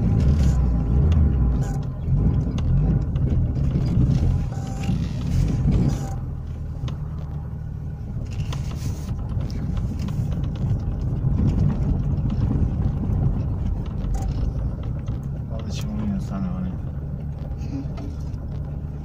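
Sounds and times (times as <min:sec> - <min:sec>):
knocks and rattles: 0:00.0 - 0:06.2, 0:08.2 - 0:19.0
car engine running: 0:00.0 - 0:19.0
tyre noise on dirt track: 0:00.0 - 0:19.0.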